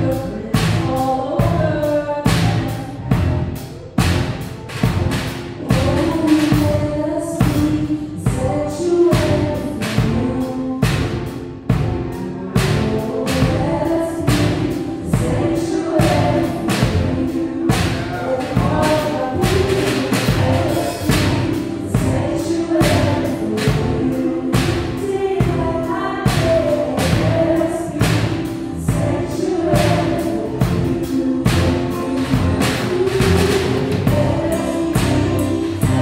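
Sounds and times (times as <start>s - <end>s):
drum kit beat: 0.0s - 36.0s
keyboard chords: 0.0s - 36.0s
voices singing slow melody: 0.0s - 36.0s.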